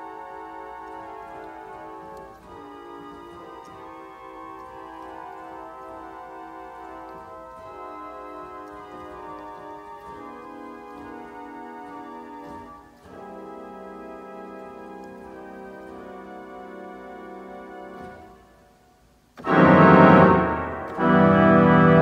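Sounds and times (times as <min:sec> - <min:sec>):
pipe organ chords: 0:00.0 - 0:22.0.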